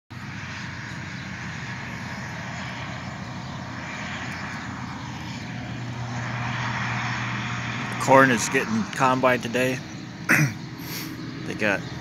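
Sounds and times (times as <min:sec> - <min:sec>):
distant engine hum: 0:00.1 - 0:12.0.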